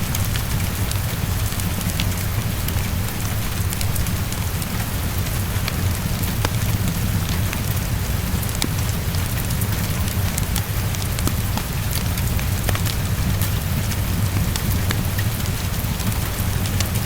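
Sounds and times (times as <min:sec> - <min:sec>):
fireplace crackling: 0:00.0 - 0:17.0
heavy rain: 0:00.0 - 0:17.0.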